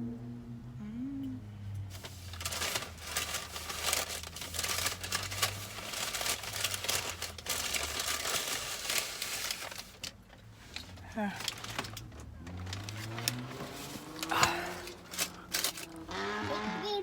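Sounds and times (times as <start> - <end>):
low steady hum: 0.0 - 16.1
paper packaging crinkling: 1.9 - 16.1.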